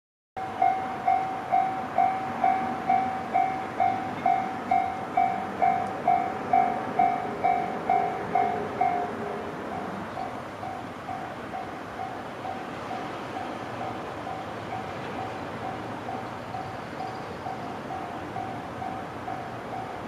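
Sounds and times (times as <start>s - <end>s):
level-crossing warning bell: 0.4s - 20.0s
lower-pitched warning tone: 0.4s - 20.0s.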